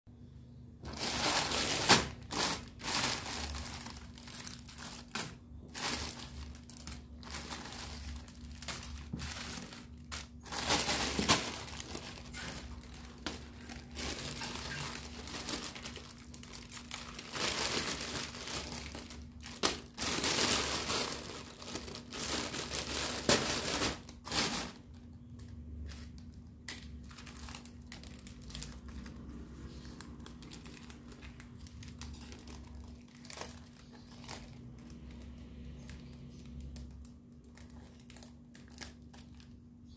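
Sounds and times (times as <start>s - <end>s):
plastic crinkling and rustling: 0.6s - 39.9s.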